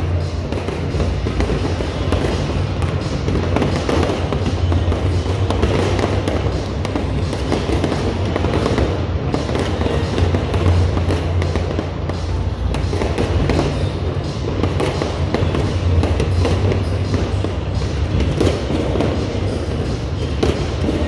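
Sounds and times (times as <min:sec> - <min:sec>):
fireworks crackling and banging: 0:00.0 - 0:21.0
music with steady bass: 0:00.0 - 0:21.0.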